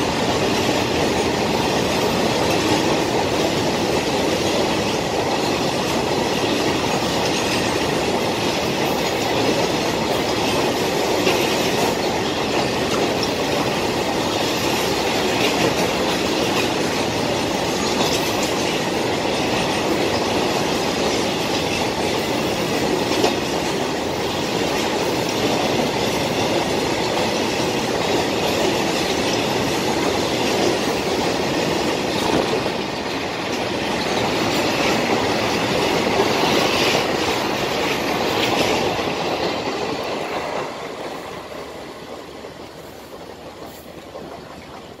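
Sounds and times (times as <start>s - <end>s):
clickety-clack over rail joints: 0.0s - 45.0s
train wheels rumbling on rails: 0.0s - 45.0s.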